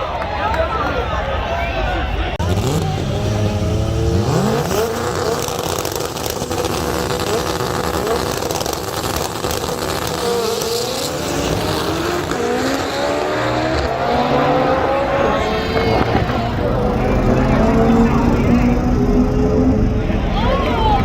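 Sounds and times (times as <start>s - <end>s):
car engine revving: 2.4s - 21.0s.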